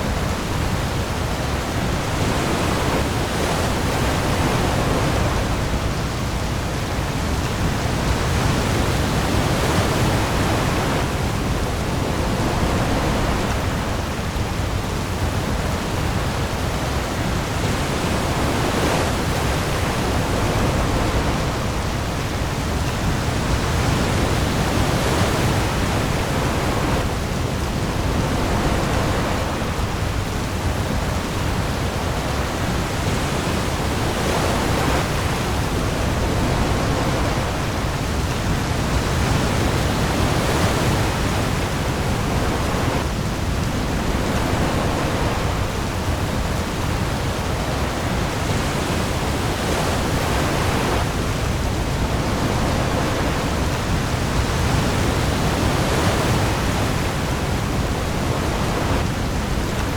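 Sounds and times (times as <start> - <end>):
heavy rain on sea: 0.0 - 59.9.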